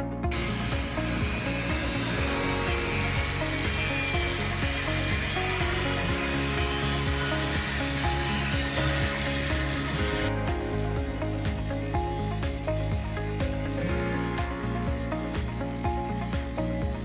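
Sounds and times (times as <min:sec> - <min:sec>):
background music with steady beat: 0:00.0 - 0:17.0
angle grinder grinding metal: 0:00.3 - 0:17.0.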